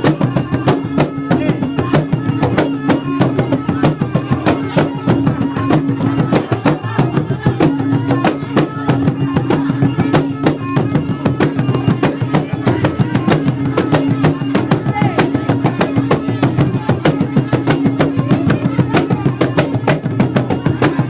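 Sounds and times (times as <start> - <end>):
drums beaten in fast rhythm: 0.0 - 21.0.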